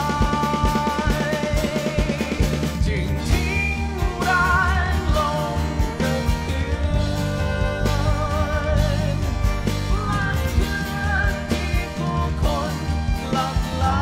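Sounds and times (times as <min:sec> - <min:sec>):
electric bass: 0:00.0 - 0:14.0
keyboard: 0:00.0 - 0:14.0
man singing: 0:00.0 - 0:14.0
steady drum beat: 0:00.0 - 0:14.0.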